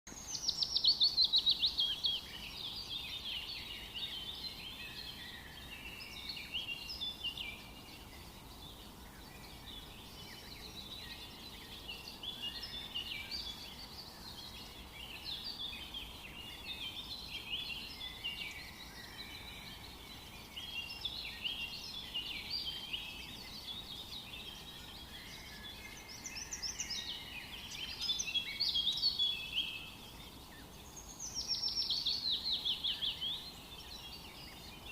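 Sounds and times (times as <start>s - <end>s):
songbirds singing in chorus: 0.1s - 34.9s.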